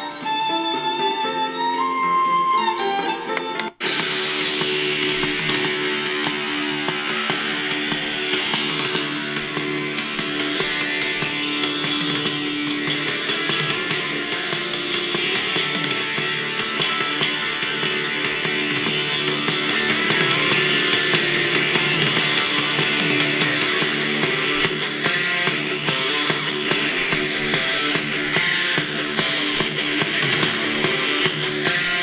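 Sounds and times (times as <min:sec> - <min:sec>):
rock music from radio speaker: 0:03.6 - 0:32.0.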